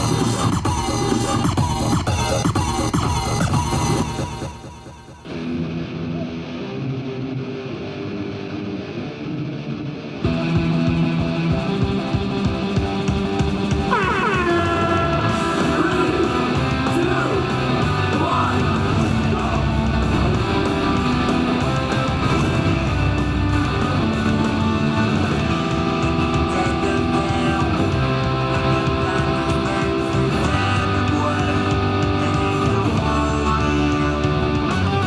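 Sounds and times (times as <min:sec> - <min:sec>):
rock music with guitar: 0:00.0 - 0:35.0
sliding guitar pitch sweep: 0:00.0 - 0:35.0.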